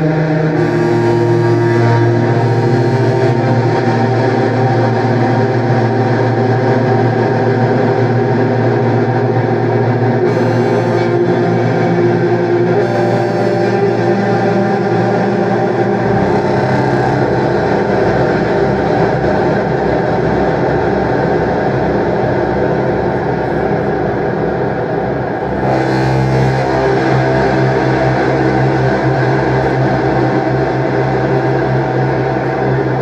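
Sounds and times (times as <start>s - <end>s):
low clarinet drone with reverb: 0.0s - 33.0s.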